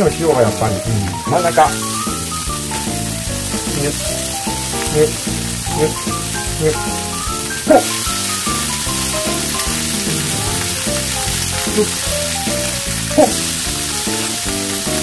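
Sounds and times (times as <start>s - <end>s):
background music: 0.0s - 15.0s
patties sizzling in frying pan: 0.0s - 15.0s.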